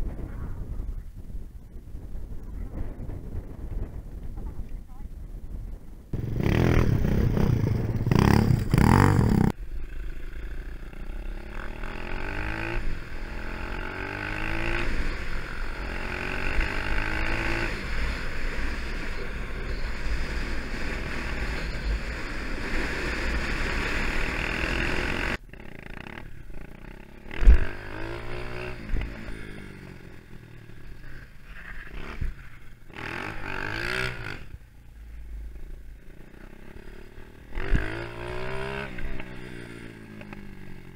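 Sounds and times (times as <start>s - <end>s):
dirt bike engine revving: 6.2s - 34.6s, 36.0s - 40.9s.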